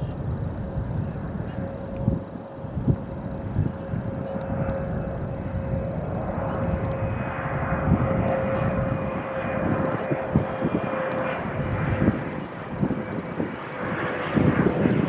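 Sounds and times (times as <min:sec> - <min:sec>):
airplane engines whining: 0:00.0 - 0:15.0.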